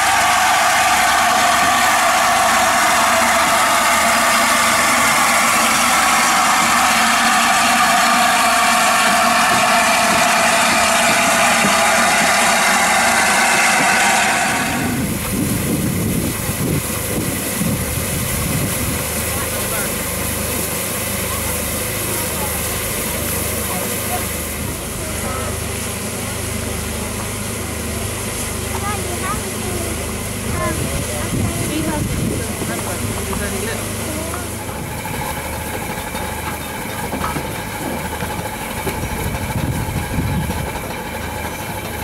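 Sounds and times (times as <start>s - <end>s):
low uneven rumble: 0.0s - 40.8s
steam locomotive hissing steam: 0.0s - 42.0s.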